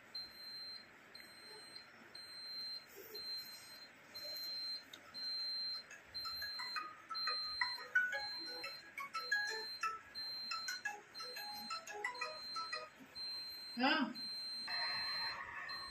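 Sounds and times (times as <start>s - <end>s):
high electronic alarm beeps: 0.2s - 15.9s.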